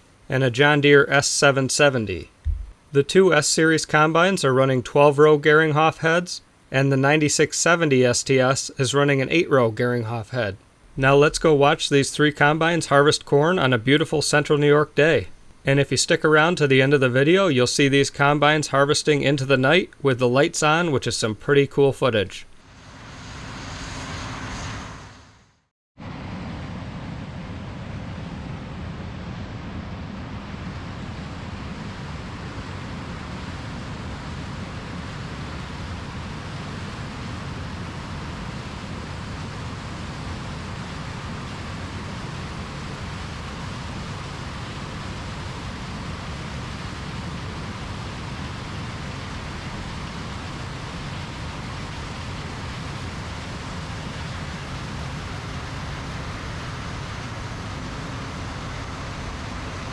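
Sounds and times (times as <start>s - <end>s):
combine harvester drone: 0.0s - 25.2s, 26.0s - 59.9s.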